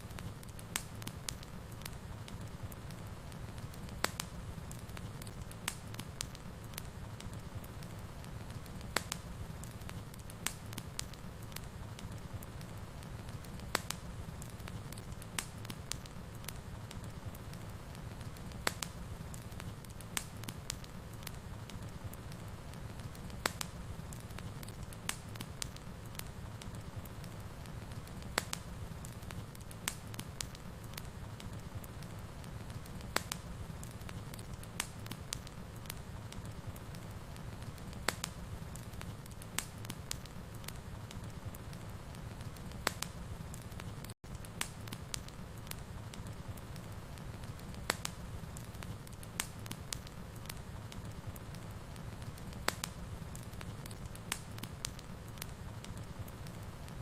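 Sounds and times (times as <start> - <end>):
fire flames rumbling: 0.0 - 57.0
wood fire crackling and popping: 0.0 - 57.0.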